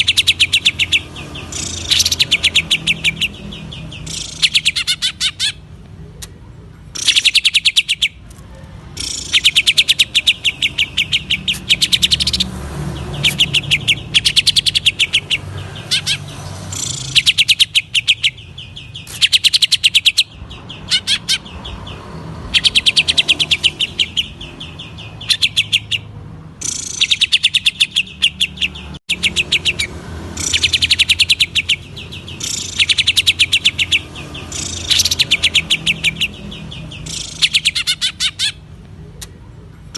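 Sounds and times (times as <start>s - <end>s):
bird singing stuttering runs: 0.0s - 5.6s, 6.9s - 8.2s, 9.0s - 38.8s.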